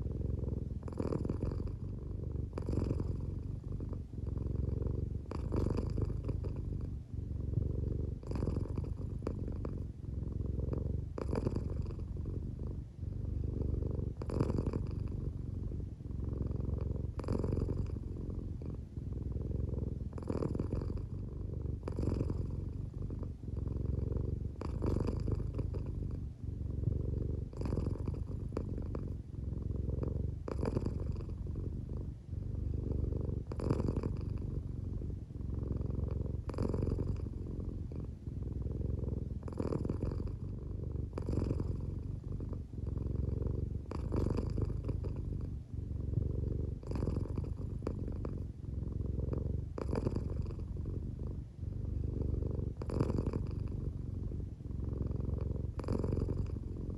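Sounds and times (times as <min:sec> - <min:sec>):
cat purring: 0:00.0 - 0:56.9.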